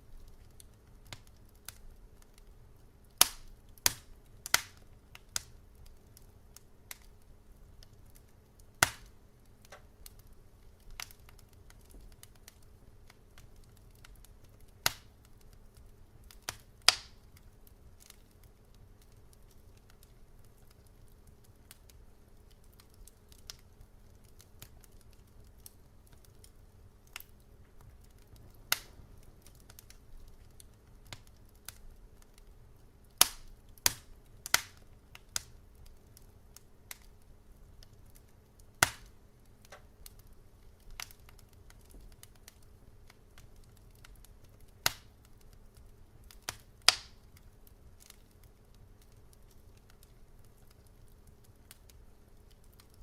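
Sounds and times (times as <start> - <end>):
faint low rumble: 0.0 - 53.0
wood fire crackling: 0.0 - 53.0.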